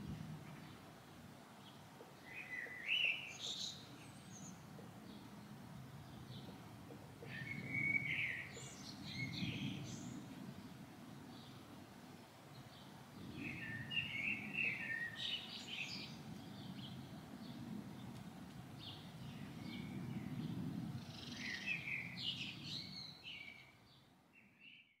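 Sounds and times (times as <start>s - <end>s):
birds chirping: 0.4s - 25.0s.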